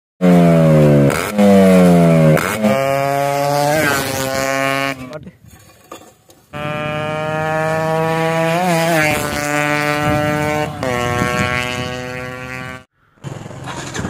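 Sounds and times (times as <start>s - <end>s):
two-stroke motorcycle engine: 0.2s - 5.2s, 6.5s - 14.0s.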